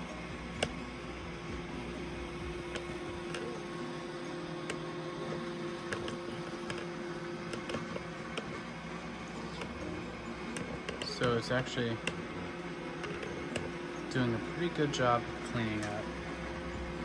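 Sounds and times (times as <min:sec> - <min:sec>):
robot vacuum motor hum: 0:00.0 - 0:17.0.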